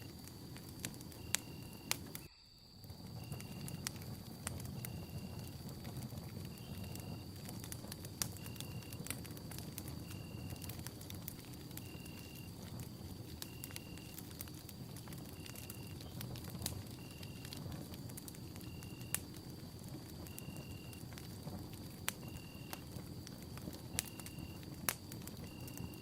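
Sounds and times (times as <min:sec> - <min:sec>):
fire popping and crackling: 0:00.0 - 0:26.0
flames rushing: 0:00.0 - 0:26.0.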